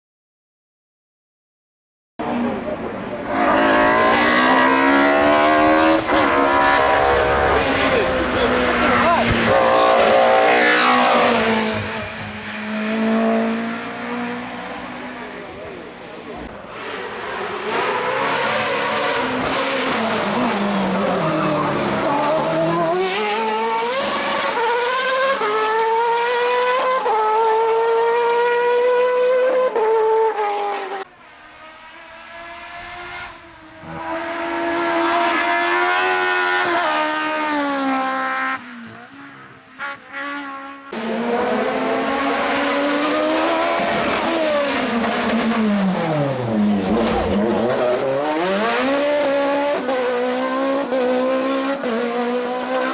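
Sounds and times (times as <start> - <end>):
race car engines revving high: 2.2 - 52.9.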